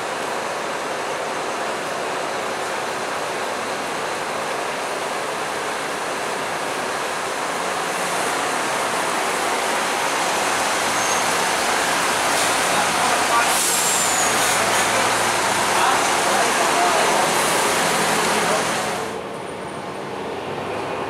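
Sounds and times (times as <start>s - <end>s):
road traffic roar: 0.0s - 21.0s.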